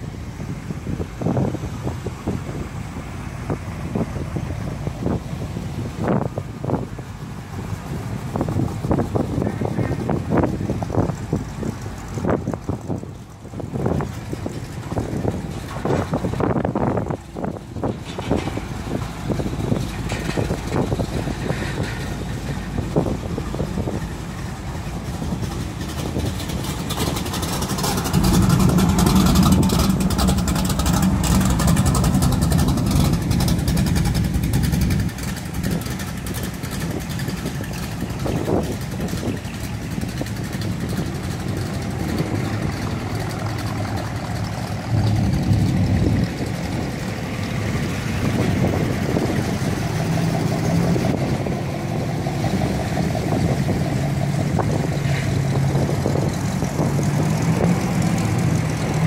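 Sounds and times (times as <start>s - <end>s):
car and truck engines rumbling: 0.0s - 59.0s
deep loud engine: 0.0s - 59.0s.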